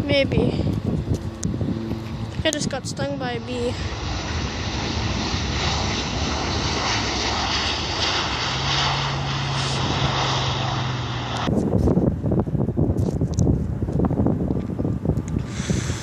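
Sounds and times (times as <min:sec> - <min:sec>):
airliner engine rushing: 0:00.0 - 0:16.0
wind buffeting microphone: 0:00.0 - 0:16.0.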